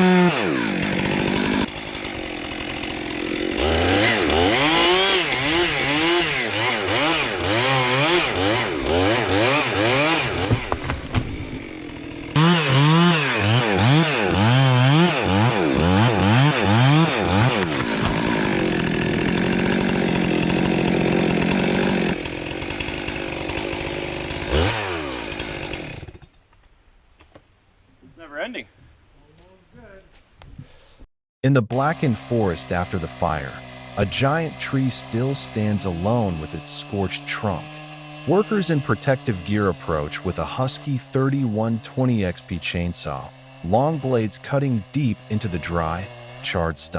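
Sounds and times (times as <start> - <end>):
chainsaw cutting wood: 0.0 - 26.5, 31.7 - 46.9.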